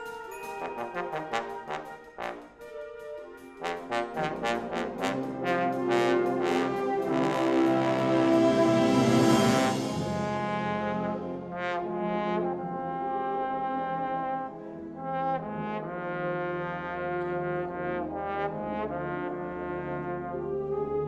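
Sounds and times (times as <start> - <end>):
wind band playing: 0.0 - 21.0.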